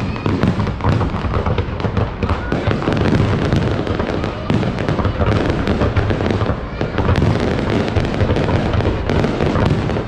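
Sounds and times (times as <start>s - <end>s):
deep rumble of firework launches: 0.0s - 10.0s
fireworks bangs and crackles: 0.0s - 10.0s.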